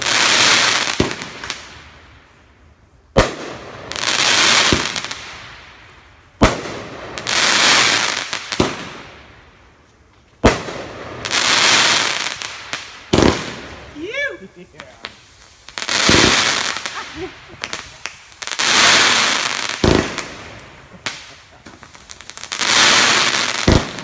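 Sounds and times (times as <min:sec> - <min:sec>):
firework bangs: 0:00.0 - 0:02.1, 0:03.1 - 0:09.5, 0:10.4 - 0:24.0
firework crackling sizzle: 0:00.0 - 0:24.0.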